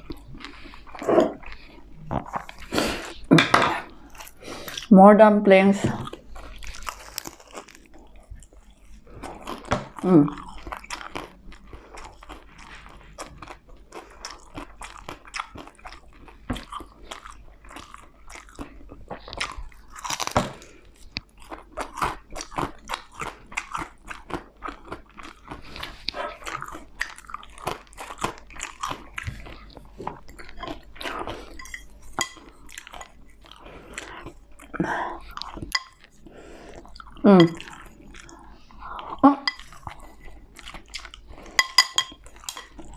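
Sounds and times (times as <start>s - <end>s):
chewing and crunching crisp food: 0.0s - 4.9s, 5.7s - 42.9s.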